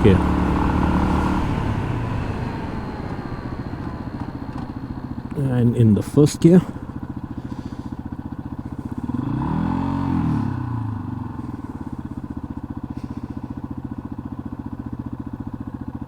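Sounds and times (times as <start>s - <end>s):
second engine passing: 0.0s - 15.2s
single-cylinder engine pulsing: 0.0s - 16.0s.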